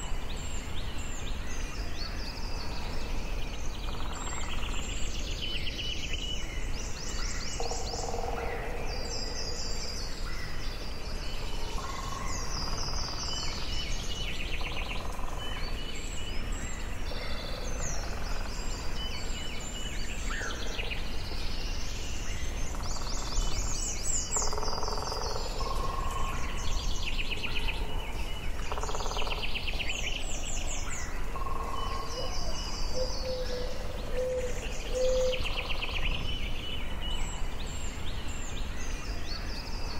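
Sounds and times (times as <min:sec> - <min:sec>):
birds singing and calling: 0:00.0 - 0:39.9
low background noise: 0:00.0 - 0:39.9.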